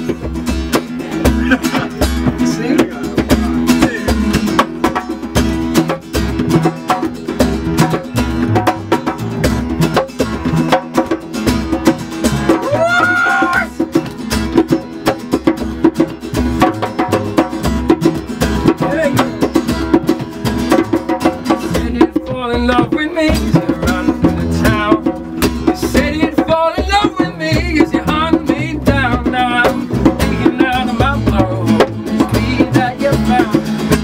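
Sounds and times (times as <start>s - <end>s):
steady regular beat: 0.0s - 34.0s
strummed acoustic guitar: 0.0s - 34.0s.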